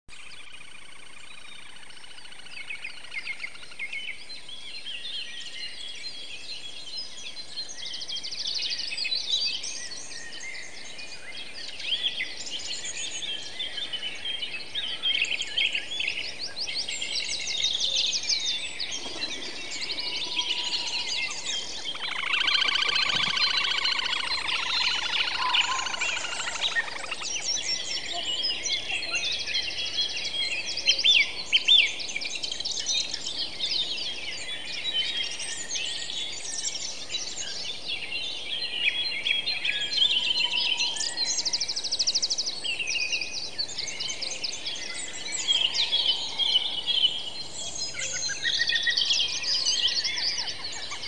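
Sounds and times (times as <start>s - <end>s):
songbirds chirping and trilling: 0.1s - 51.0s.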